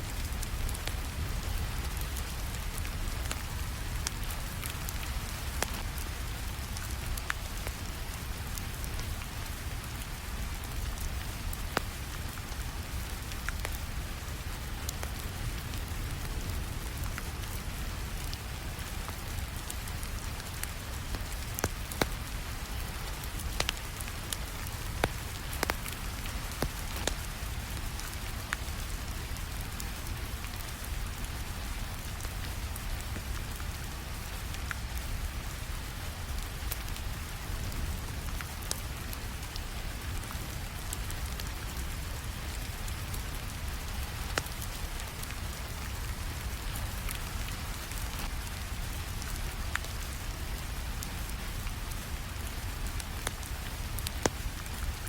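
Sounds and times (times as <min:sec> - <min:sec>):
steady rainfall: 0:00.0 - 0:55.0
wood fire crackling and popping: 0:00.1 - 0:55.0.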